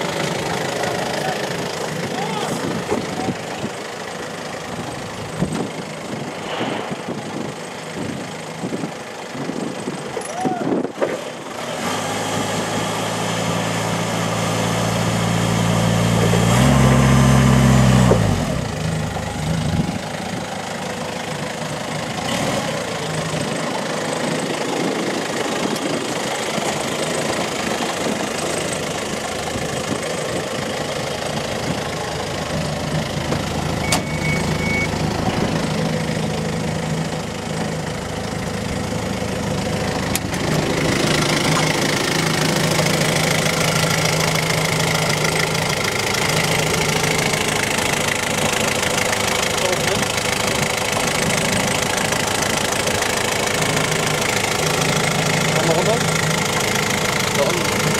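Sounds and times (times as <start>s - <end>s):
forklift diesel engine idling and revving: 0.0s - 57.9s.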